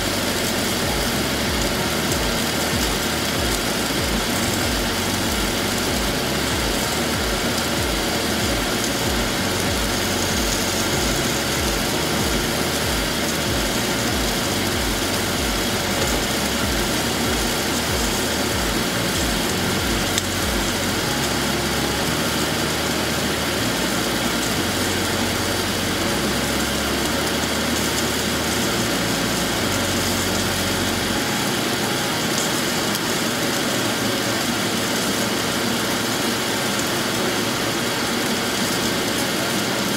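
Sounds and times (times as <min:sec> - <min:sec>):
meat sizzling in a frying pan: 0:00.0 - 0:39.9
steady mechanical hum: 0:00.0 - 0:39.9.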